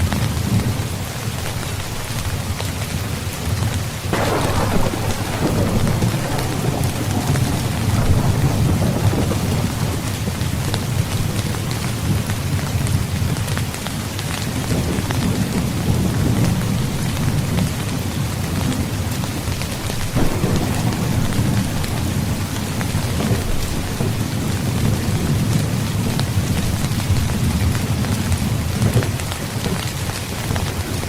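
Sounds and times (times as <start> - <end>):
heavy rainfall: 0.0 - 31.0
low rumble of thunder: 4.1 - 31.0.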